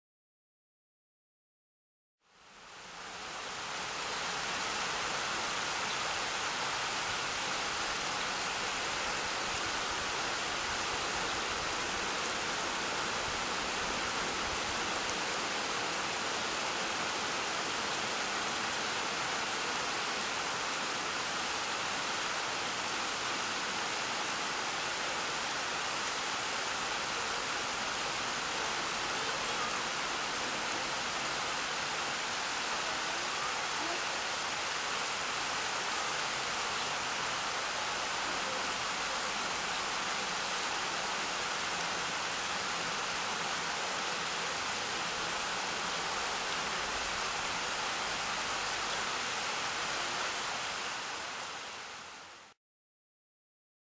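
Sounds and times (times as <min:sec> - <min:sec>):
stream water flowing: 0:02.3 - 0:52.5.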